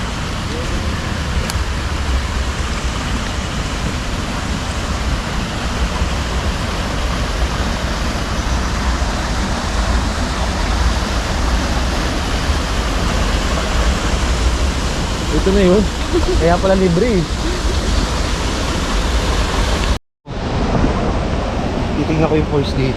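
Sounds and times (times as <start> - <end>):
waterfall roaring: 0.0 - 22.9.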